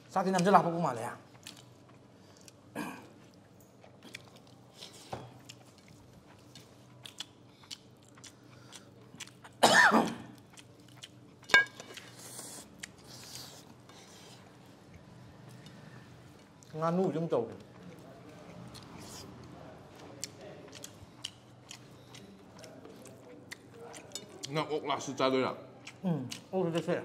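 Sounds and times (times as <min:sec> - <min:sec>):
people chewing with mouth smacks: 0:00.1 - 0:24.7, 0:25.6 - 0:27.0.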